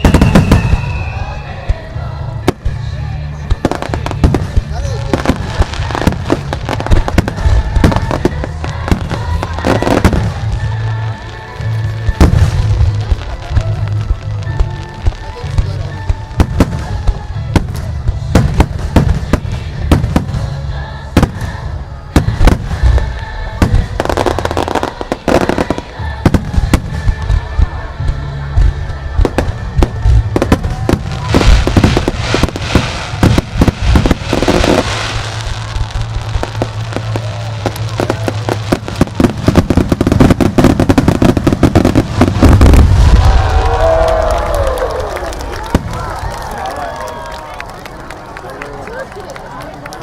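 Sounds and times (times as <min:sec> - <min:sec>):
deep fireworks booms: 0:00.0 - 0:02.9, 0:03.5 - 0:46.4
fireworks bangs and crackle: 0:00.0 - 0:47.4.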